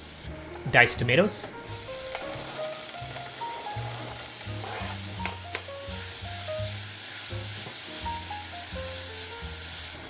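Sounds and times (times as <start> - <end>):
background music: 0.0 - 10.0
tomato sizzling in hot oil: 0.0 - 10.0.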